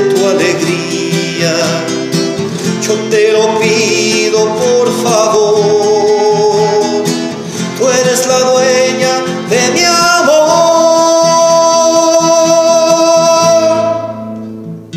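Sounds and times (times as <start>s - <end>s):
man singing: 0.0s - 14.6s
strummed acoustic guitar: 0.0s - 14.9s.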